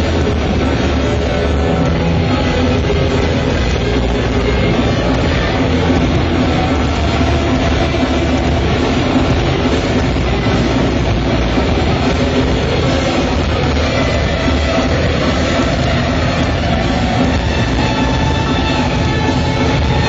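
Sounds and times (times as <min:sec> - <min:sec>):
distorted electric guitar: 0:00.0 - 0:20.0
heavy metal band playing: 0:00.0 - 0:20.0.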